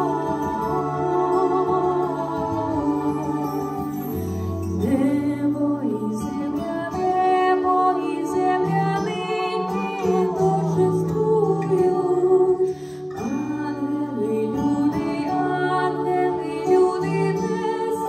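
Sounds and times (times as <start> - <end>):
church choir singing: 0.0 - 18.0.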